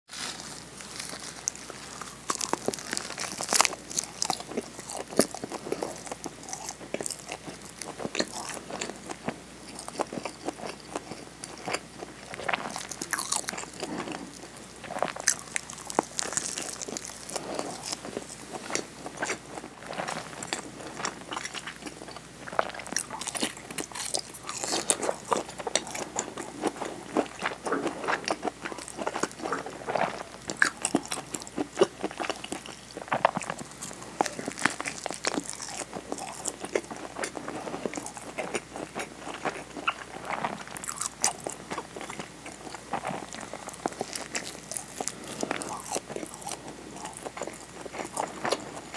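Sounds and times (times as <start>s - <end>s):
seaweed crunching: 0.1s - 9.2s, 9.8s - 48.9s
chewing: 0.2s - 48.9s.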